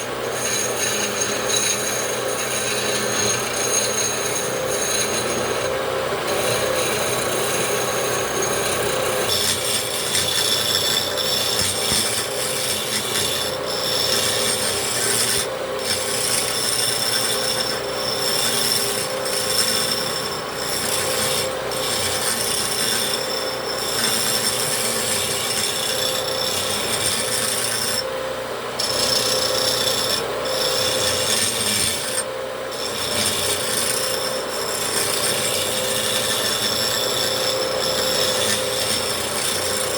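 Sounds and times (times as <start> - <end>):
tool scraping spinning wood: 0.0 - 39.9
wood lathe motor hum: 0.0 - 39.9.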